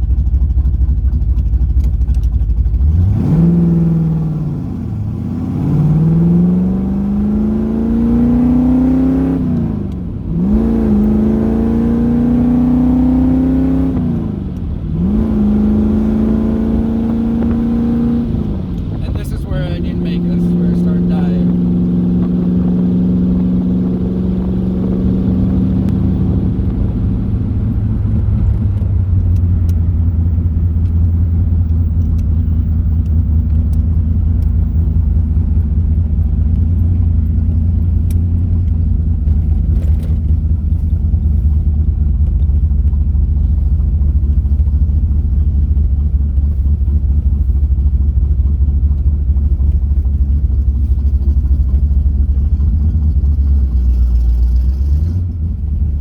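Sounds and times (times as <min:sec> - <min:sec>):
car engine and exhaust droning: 0:00.0 - 0:56.0.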